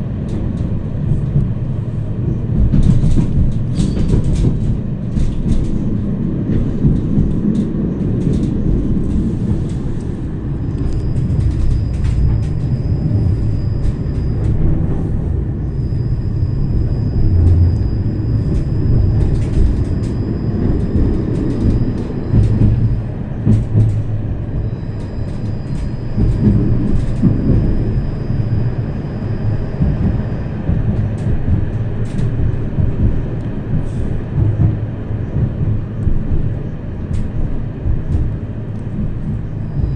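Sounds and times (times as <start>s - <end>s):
tram rumbling on track: 0.0s - 39.9s
wheels clicking on rails: 0.0s - 39.9s.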